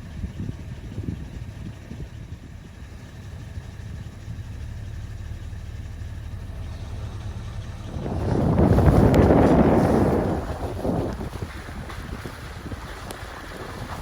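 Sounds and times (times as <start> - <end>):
wind on microphone: 0.0 - 3.9, 6.5 - 14.0
vehicle engine idling: 0.0 - 14.0.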